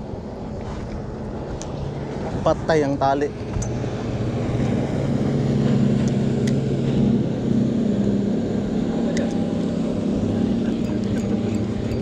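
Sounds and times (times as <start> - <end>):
motorboat engine humming: 0.0 - 12.0
water noise: 0.0 - 12.0
wind: 0.0 - 12.0.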